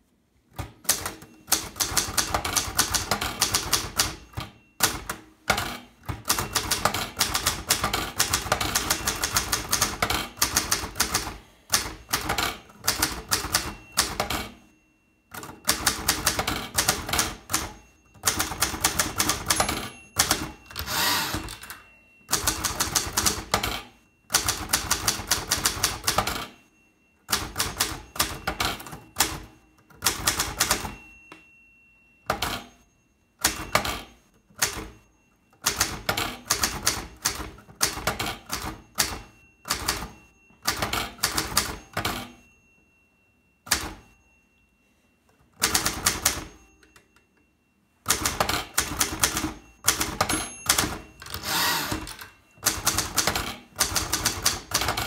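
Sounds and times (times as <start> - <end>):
manual typewriter typing: 0.6 - 14.6, 15.3 - 26.6, 27.3 - 31.0, 33.4 - 35.0, 35.6 - 42.4, 45.5 - 47.1, 48.1 - 55.0.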